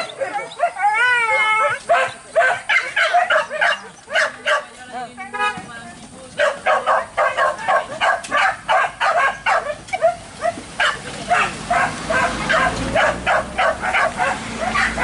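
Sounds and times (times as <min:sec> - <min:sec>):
dogs barking rapidly: 0:00.0 - 0:04.8, 0:06.4 - 0:15.0.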